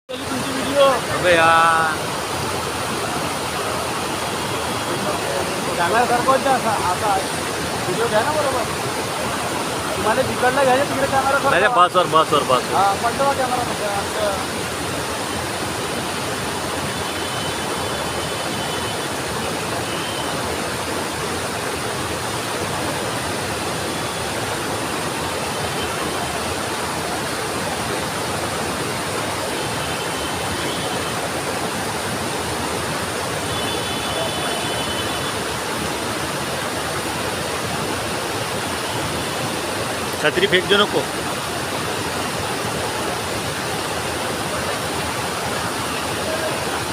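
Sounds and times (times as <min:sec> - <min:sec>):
rushing flood water: 0:00.1 - 0:46.9.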